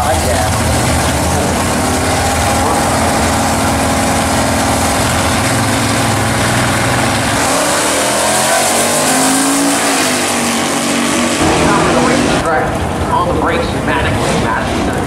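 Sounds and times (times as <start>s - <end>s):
race car engines idling and revving: 0.0s - 15.0s.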